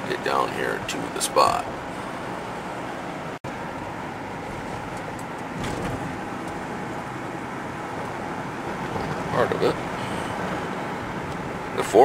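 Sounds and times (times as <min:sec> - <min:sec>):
motor vehicle road noise: 0:00.0 - 0:12.0.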